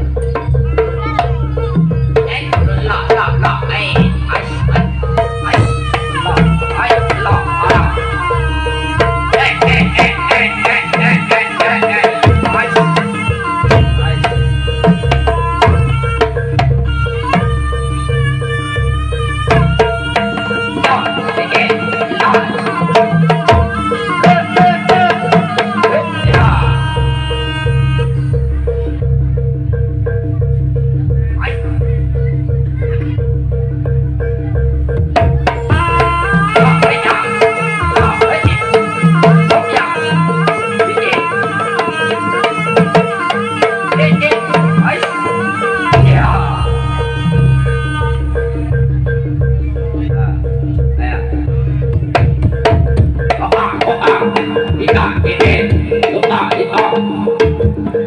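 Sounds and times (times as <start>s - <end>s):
wavering melodic line: 0.0s - 58.0s.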